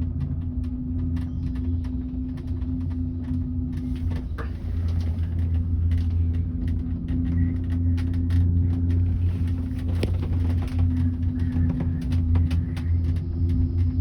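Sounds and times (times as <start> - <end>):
cable car humming: 0.0 - 14.0
small clicks and rattles: 0.0 - 14.0.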